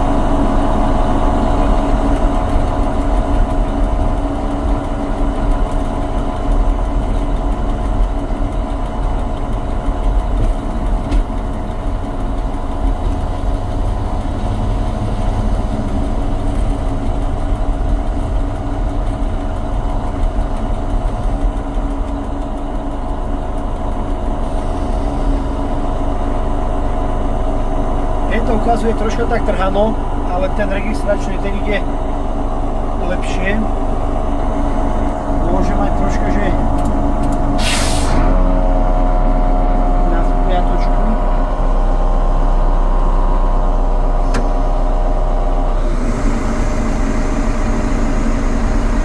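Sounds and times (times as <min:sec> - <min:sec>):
miniature locomotive droning: 0:00.0 - 0:49.0.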